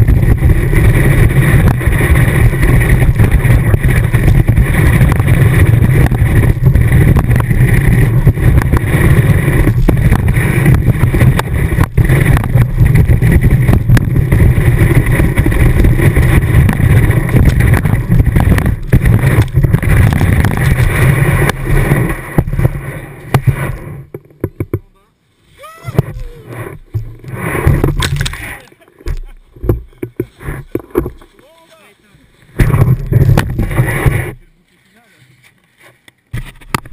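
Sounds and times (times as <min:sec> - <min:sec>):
ski scraping over snow: 0:00.0 - 0:24.1, 0:25.2 - 0:36.9
knocks on ski: 0:00.1 - 0:24.9, 0:26.0 - 0:31.3, 0:32.6 - 0:34.4.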